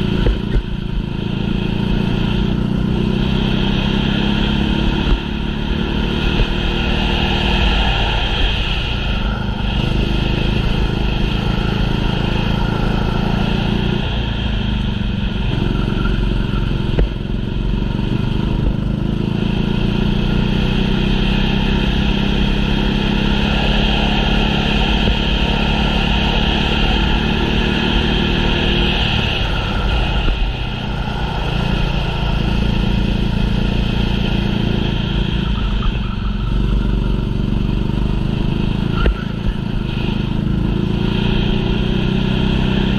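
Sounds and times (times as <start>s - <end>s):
go-kart engine running hard: 0.0s - 42.9s.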